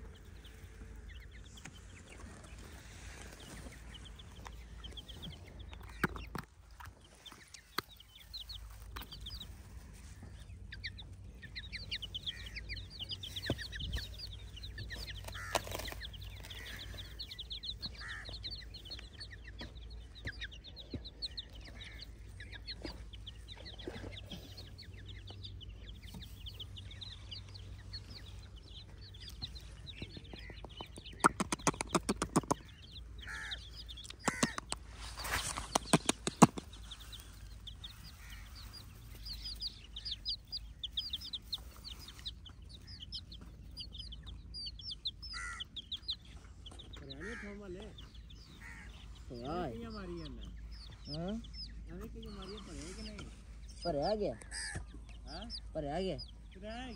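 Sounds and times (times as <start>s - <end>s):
baby chicks peeping: 0.0s - 56.9s.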